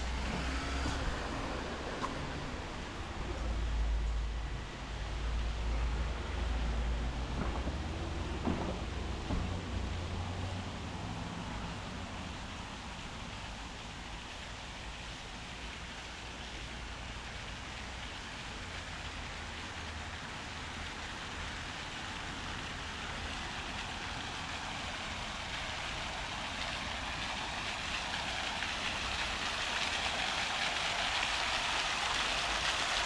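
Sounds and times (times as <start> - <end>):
rain on pavement: 0.0 - 33.0.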